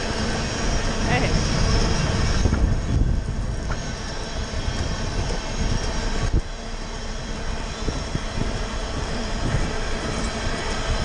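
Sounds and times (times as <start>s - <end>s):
freight train running: 0.0s - 11.0s
wind on microphone: 0.0s - 11.0s.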